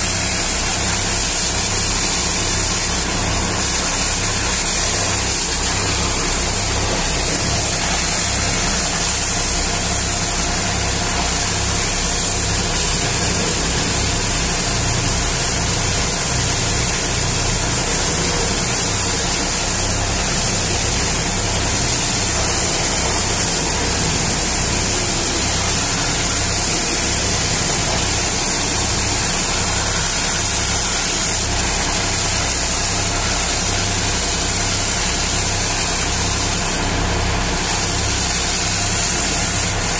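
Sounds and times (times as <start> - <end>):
pressure washer water jet hissing: 0.0 - 39.9.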